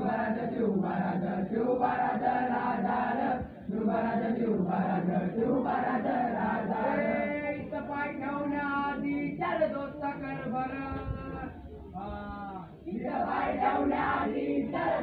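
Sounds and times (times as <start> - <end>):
boys singing in unison: 0.0 - 11.5, 12.8 - 15.0.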